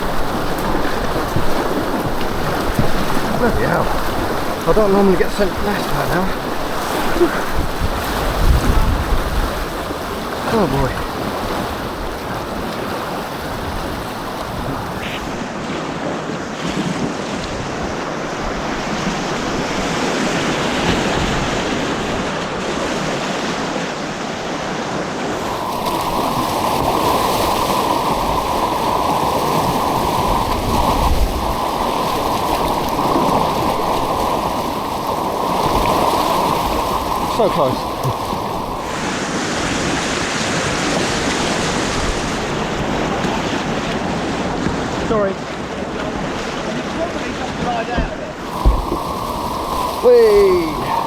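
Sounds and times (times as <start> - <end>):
white water rushing: 0.0 - 15.8, 16.8 - 51.0.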